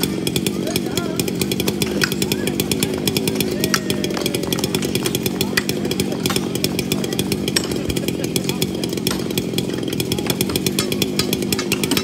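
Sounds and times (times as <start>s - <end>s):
chainsaws running: 0.0s - 12.0s
voices talking: 0.0s - 12.0s.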